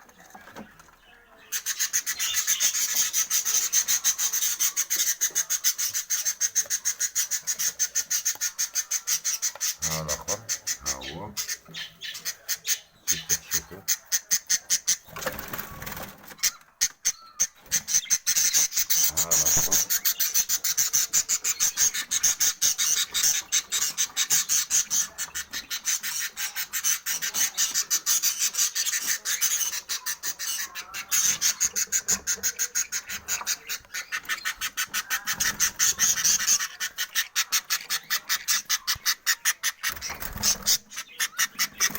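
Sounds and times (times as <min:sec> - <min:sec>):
budgerigars chirping: 0:00.0 - 0:41.9.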